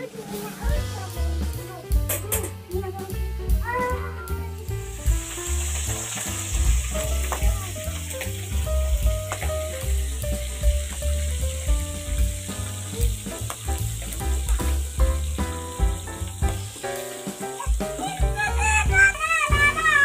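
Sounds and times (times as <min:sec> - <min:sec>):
background music with a beat: 0:00.0 - 0:20.0
prawns sizzling in hot oil: 0:00.0 - 0:20.0.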